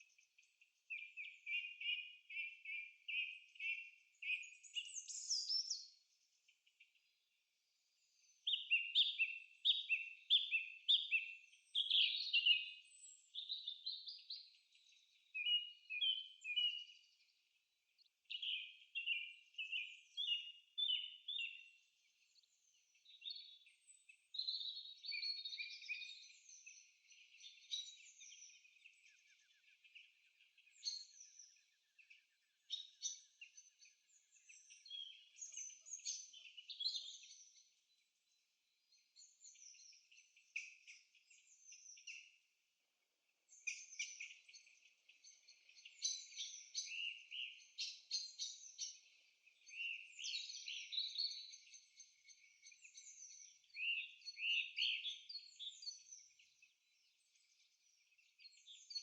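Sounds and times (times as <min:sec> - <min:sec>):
bird chirps and twitters: 0:00.0 - 0:42.5, 0:43.5 - 0:59.0.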